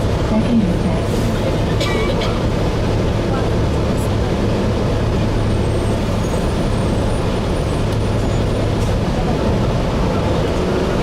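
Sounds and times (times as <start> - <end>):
bus engine drone: 0.0 - 11.0
road and cabin noise: 0.0 - 11.0.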